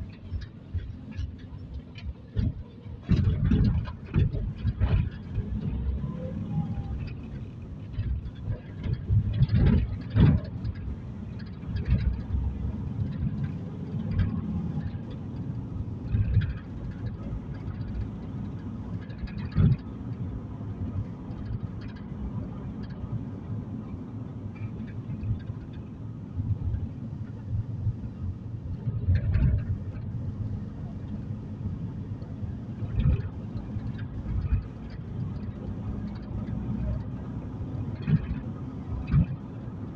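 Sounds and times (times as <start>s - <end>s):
thumps from road bumps: 0.0s - 6.2s, 6.8s - 39.8s
car cabin road rumble: 0.0s - 39.9s.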